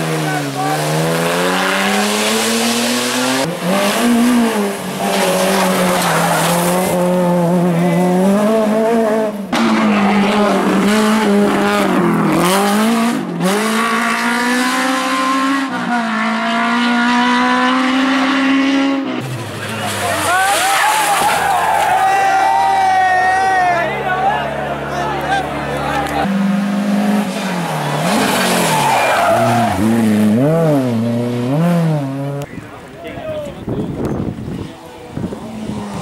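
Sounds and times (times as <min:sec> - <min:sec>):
rally car engine revving: 0:00.0 - 0:22.0, 0:23.2 - 0:32.6, 0:33.9 - 0:36.0.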